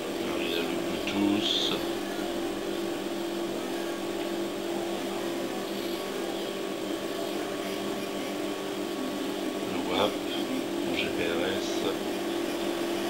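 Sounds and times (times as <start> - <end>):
steady low hum with hiss: 0.0 - 13.0.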